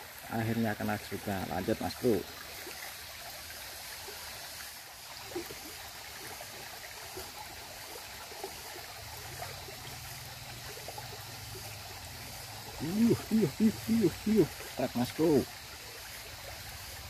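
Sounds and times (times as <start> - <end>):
stream trickling over stones: 0.0 - 17.0.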